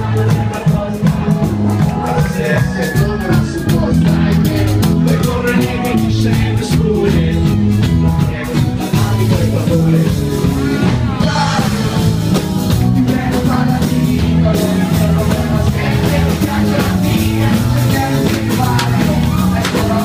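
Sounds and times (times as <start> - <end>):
drums: 0.0 - 20.0
live band playing: 0.0 - 20.0
person singing: 0.0 - 20.0.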